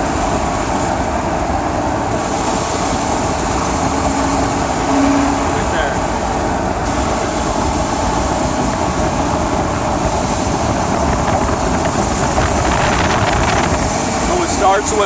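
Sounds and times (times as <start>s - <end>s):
hum while driving: 0.0s - 14.4s
van engine and road noise: 0.0s - 15.0s.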